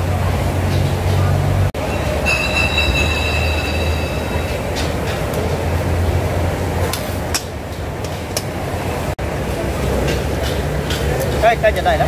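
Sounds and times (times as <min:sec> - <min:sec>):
gas burners roaring: 0:00.0 - 0:12.0.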